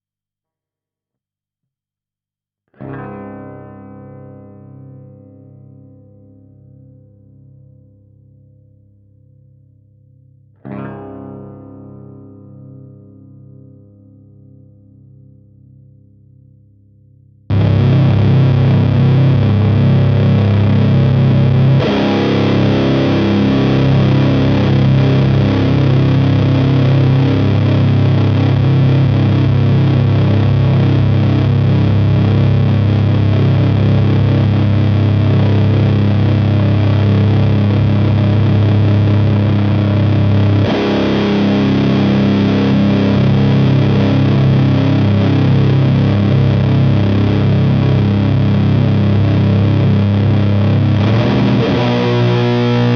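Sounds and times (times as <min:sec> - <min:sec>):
distorted electric guitar chords: 0:02.7 - 0:52.9.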